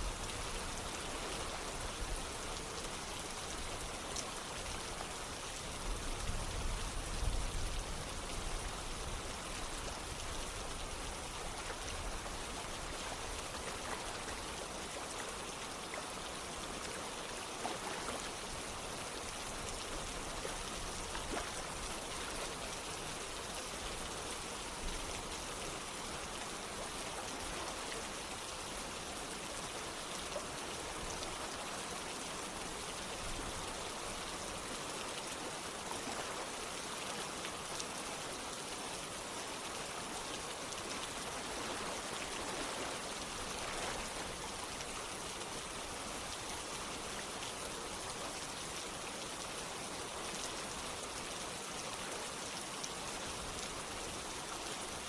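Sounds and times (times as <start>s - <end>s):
running water: 0.0s - 55.0s
steady rain: 0.0s - 55.0s.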